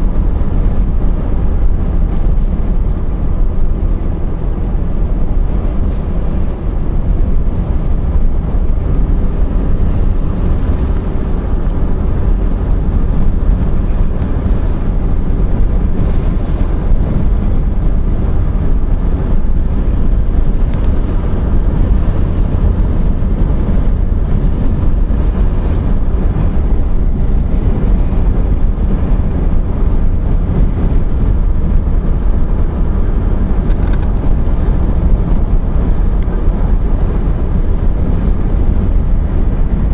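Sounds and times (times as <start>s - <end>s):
car driving rumble: 0.0s - 39.9s
road and wind noise: 0.0s - 39.9s.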